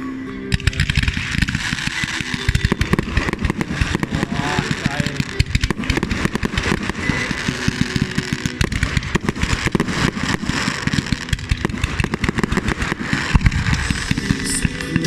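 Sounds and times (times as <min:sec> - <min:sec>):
fireworks bangs and crackles: 0:00.5 - 0:15.0.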